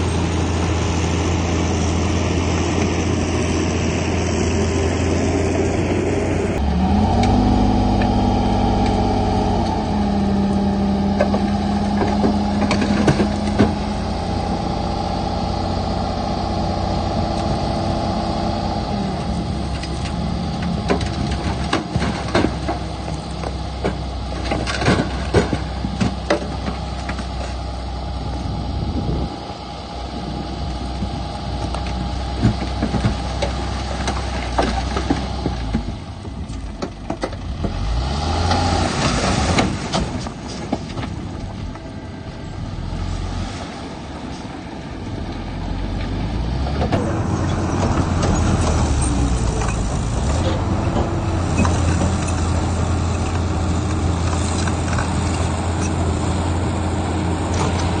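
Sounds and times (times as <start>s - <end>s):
heavy diesel machinery engine: 0.0s - 58.0s.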